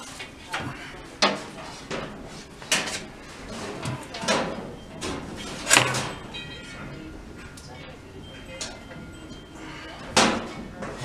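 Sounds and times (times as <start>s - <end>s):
hardware knocking and clattering: 0.0s - 7.6s, 8.4s - 11.0s.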